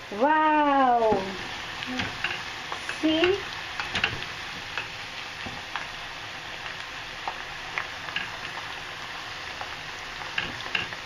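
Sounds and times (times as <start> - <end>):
fries sizzling in hot oil: 0.0 - 11.0.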